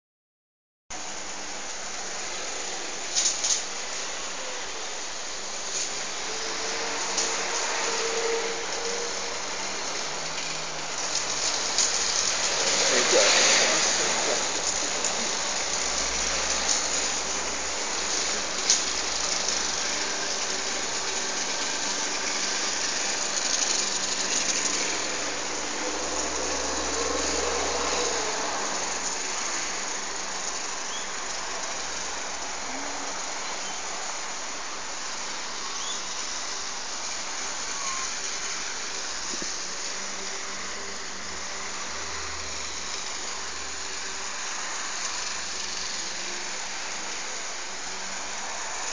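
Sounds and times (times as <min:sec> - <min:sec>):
airliner engines roaring overhead: 0:02.1 - 0:48.9.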